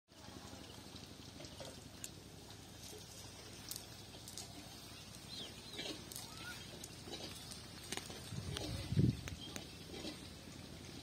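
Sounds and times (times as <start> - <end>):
faint outdoor ambience: 0.1 - 11.0.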